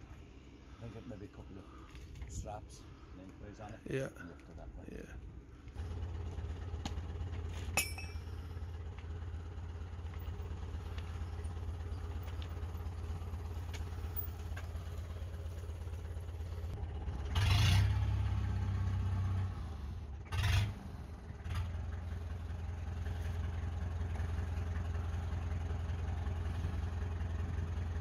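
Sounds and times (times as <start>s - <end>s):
forklift engine idling: 4.5s - 28.0s.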